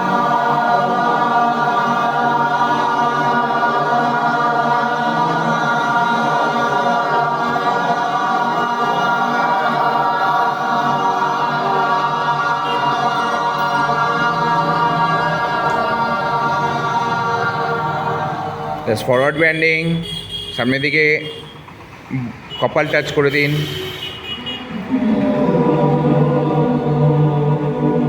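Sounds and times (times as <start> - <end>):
group of voices chanting: 0.0 - 19.3, 24.4 - 28.0.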